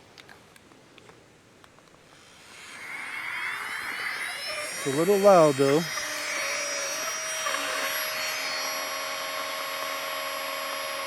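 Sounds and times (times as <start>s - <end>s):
air pump motor whine: 2.1s - 11.0s.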